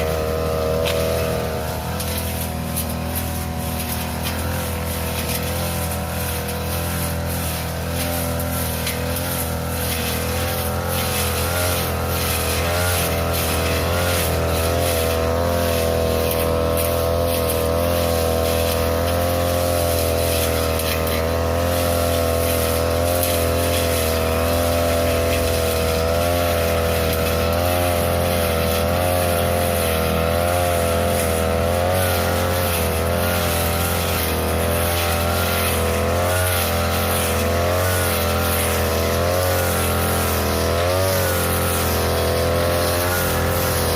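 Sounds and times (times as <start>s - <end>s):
grass cutter engine running: 0.0s - 43.9s.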